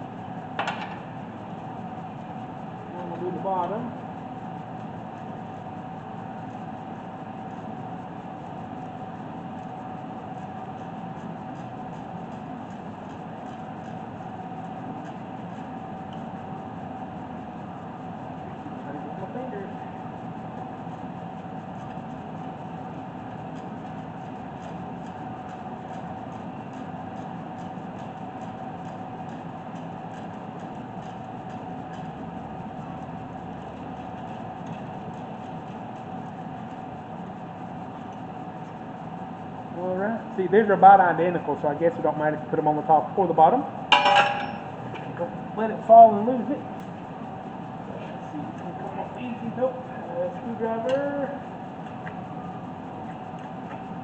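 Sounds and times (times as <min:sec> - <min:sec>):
mechanical hum and hiss: 0:00.0 - 0:54.0.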